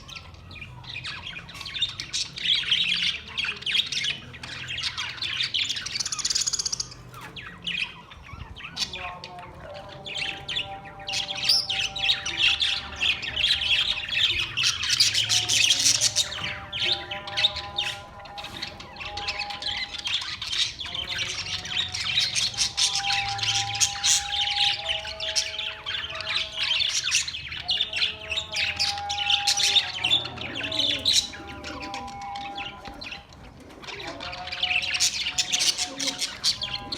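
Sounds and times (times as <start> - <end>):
budgerigars chattering: 0.0 - 36.9.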